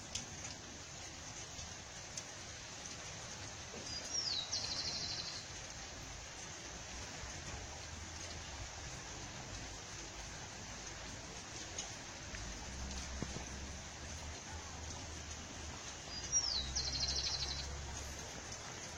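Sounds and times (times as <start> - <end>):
background hiss: 0.0 - 18.9.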